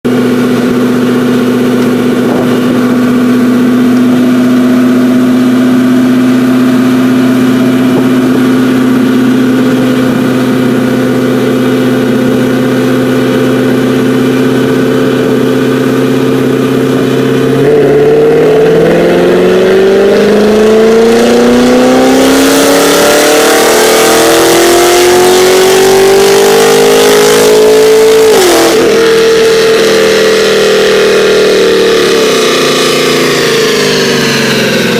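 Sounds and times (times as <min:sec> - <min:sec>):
vee eight engine revving on dyno: 0:00.1 - 0:34.9.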